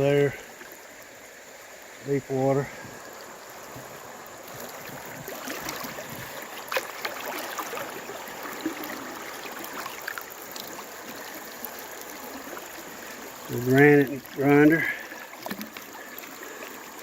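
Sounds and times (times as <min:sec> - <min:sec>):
creek water running: 0:00.0 - 0:17.0
water splashes: 0:00.0 - 0:17.0.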